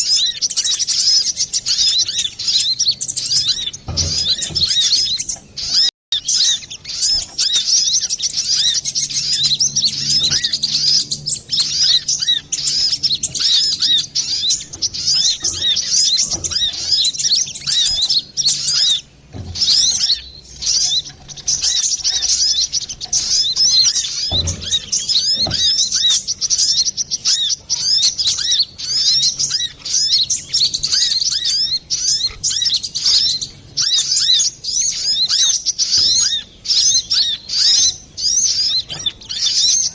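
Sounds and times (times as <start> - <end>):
sunbird chirps and trills: 0.0 - 39.9.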